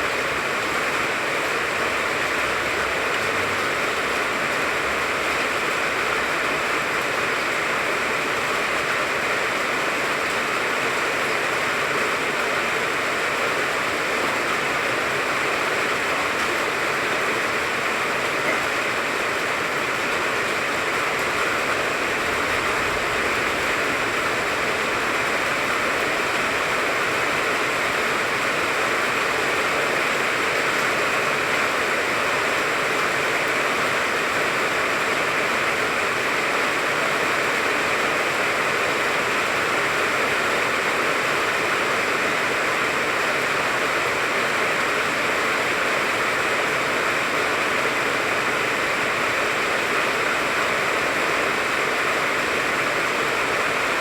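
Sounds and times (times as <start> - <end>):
rain falling on a tree: 0.0 - 54.0.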